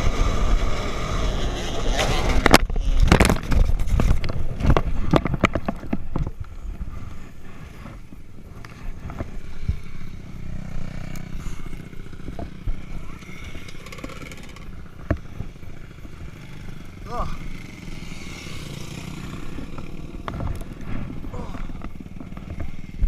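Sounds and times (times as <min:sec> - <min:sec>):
motorcycle engine running: 0:03.4 - 0:23.0.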